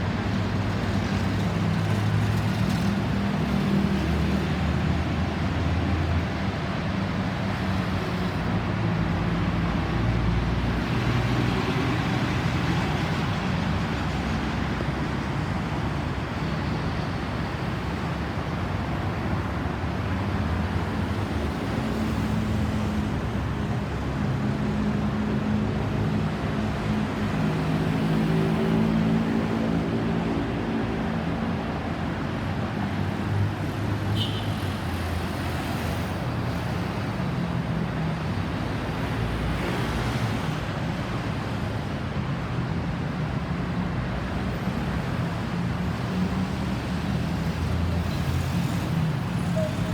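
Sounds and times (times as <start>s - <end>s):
tyre and road noise: 0.0s - 49.9s.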